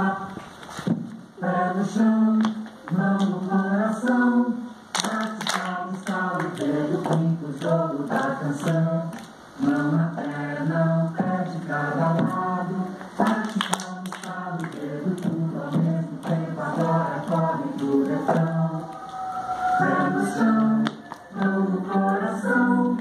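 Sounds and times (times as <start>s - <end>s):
voices singing in chorus: 0.0s - 0.4s, 1.4s - 23.0s.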